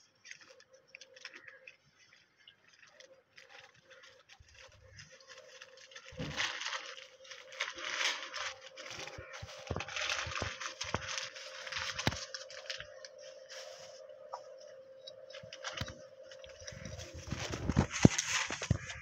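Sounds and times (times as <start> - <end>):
faint steady hum: 0.0 - 19.0
kitten rustling and scratching: 2.7 - 19.0.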